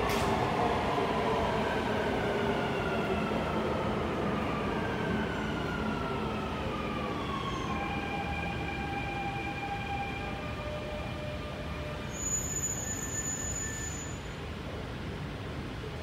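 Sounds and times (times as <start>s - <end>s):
steady train hum: 0.0s - 16.0s.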